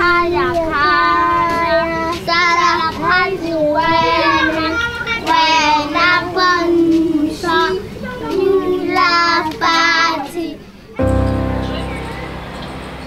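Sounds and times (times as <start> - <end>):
young children singing: 0.0 - 13.0.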